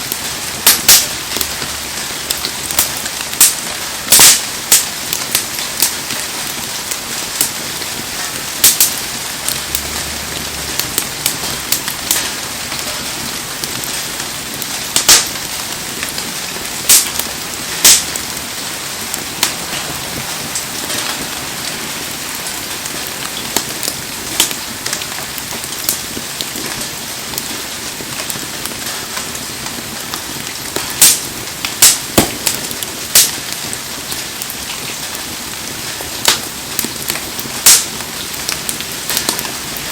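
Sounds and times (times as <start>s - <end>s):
campfire crackling and popping: 0.0s - 39.9s
heavy rain: 0.0s - 39.9s.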